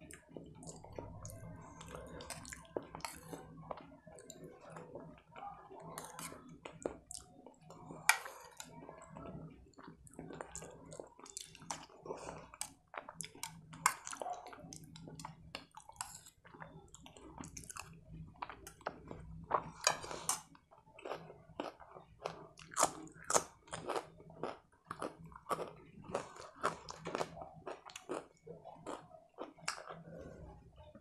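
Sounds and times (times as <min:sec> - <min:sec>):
person chewing food: 0:00.0 - 0:30.5.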